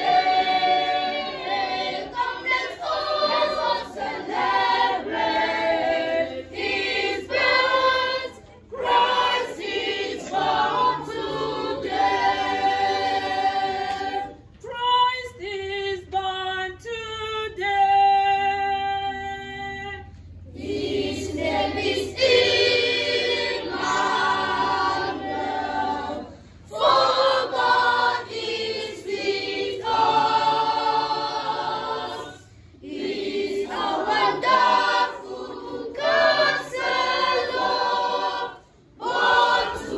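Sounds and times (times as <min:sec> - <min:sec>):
children's choir singing: 0:00.0 - 0:15.9, 0:20.5 - 0:39.9.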